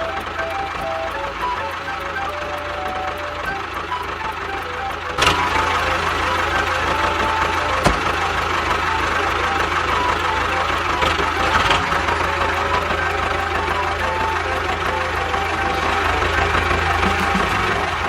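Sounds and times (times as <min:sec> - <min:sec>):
simple background music melody: 0:00.0 - 0:18.0
small motor running: 0:00.0 - 0:18.0.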